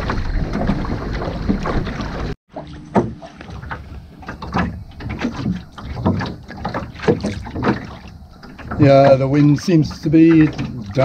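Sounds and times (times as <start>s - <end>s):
water lapping against boat hull: 0.0s - 11.0s
water splashing against hull: 0.0s - 11.0s
wind rumbling on microphone: 0.0s - 11.0s.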